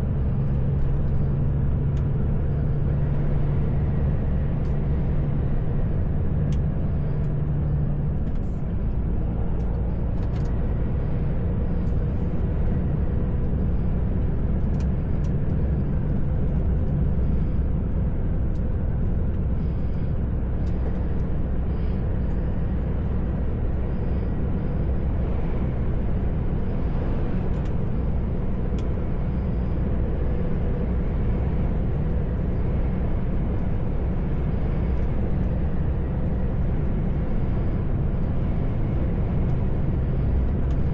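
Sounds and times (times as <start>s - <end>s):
road noise: 0.0s - 40.9s
truck diesel engine running: 0.0s - 40.9s.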